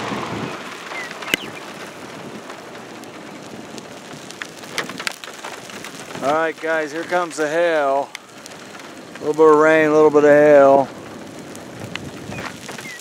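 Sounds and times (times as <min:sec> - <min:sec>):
hailstones hitting: 0:00.0 - 0:13.0
light rain hissing: 0:00.0 - 0:13.0.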